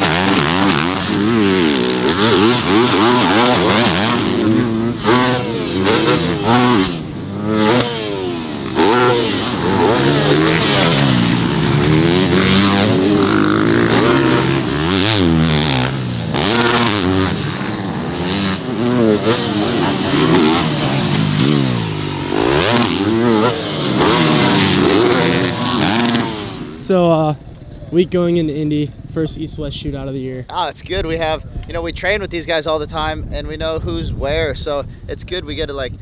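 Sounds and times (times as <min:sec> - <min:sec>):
dirt bike engines revving: 0:00.0 - 0:29.2.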